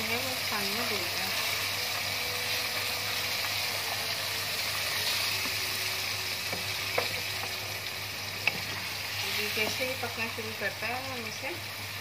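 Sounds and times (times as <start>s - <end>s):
beans sizzling in a pot: 0.0s - 12.0s.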